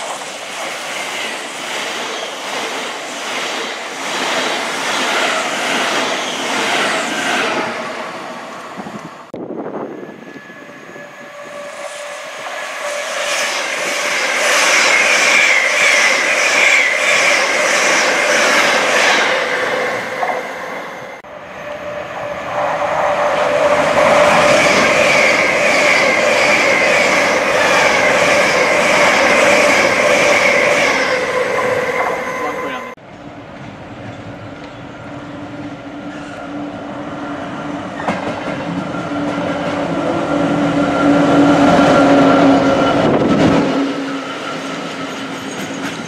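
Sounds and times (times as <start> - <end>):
electric train passing: 0.0 - 46.0
train whine: 0.0 - 46.0
wheels rushing on rail: 0.0 - 46.0.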